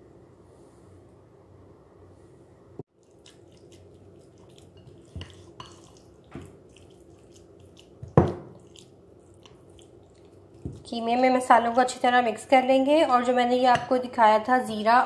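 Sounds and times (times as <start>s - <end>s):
spatula mixing wet mince: 2.9s - 15.0s.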